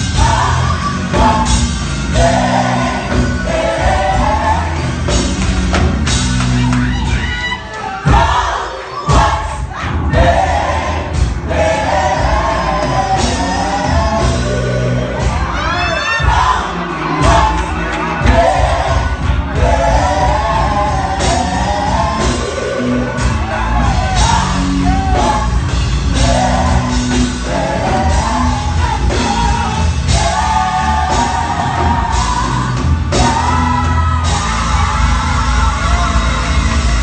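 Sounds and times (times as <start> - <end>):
gospel group singing: 0.0 - 37.0.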